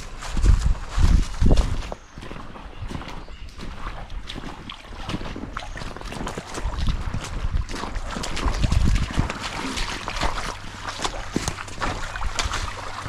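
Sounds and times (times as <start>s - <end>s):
footsteps crackling on forest floor: 0.0s - 13.0s.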